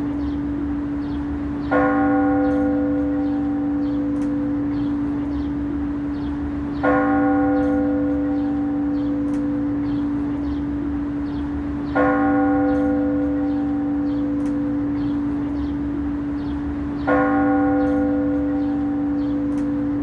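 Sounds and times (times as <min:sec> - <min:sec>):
large temple bell ringing: 0:00.0 - 0:20.0.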